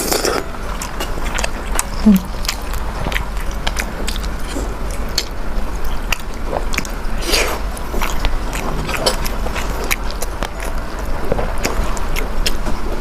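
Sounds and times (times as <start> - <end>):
biting and chewing food: 0.0 - 13.0.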